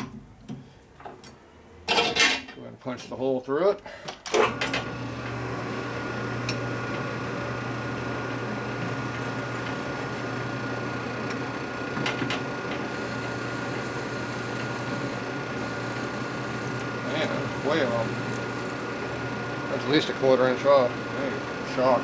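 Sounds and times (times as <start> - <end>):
machine tool motor drilling: 4.4 - 22.0.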